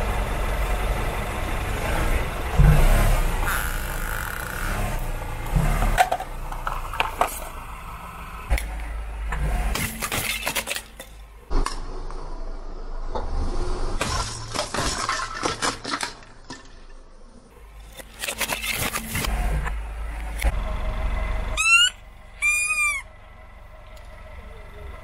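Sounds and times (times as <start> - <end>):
car engine hum: 0.0 - 14.0, 17.0 - 25.0.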